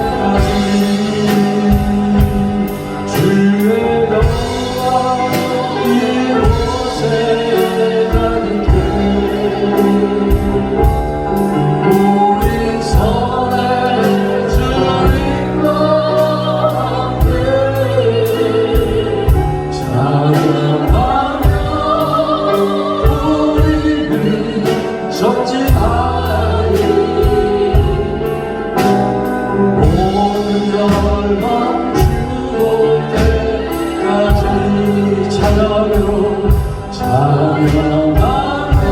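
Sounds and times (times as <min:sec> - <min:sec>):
band with bass and drums: 0:00.0 - 0:38.9
people singing worship song: 0:00.0 - 0:38.9.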